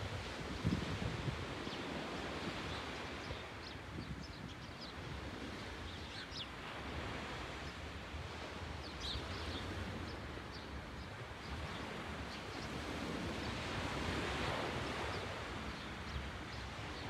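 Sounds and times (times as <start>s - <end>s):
wind with low rumble: 0.0s - 17.0s.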